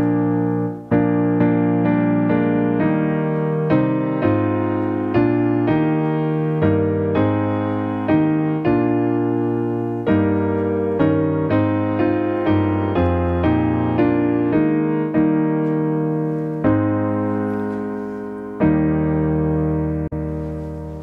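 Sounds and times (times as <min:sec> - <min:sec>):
piano playing hymn chords: 0:00.0 - 0:21.0.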